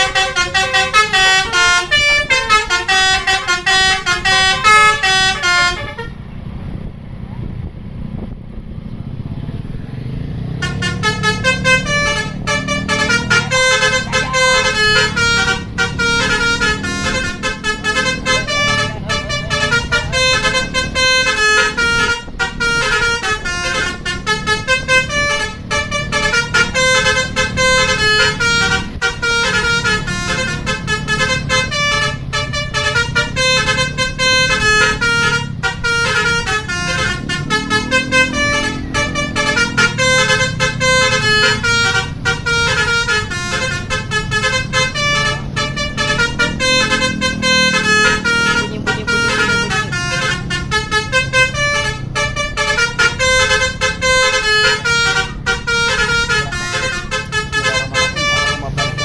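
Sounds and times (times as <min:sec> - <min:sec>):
musical air horn melody: 0:00.0 - 0:06.1, 0:10.6 - 0:59.0
bus engine running: 0:00.0 - 0:59.0.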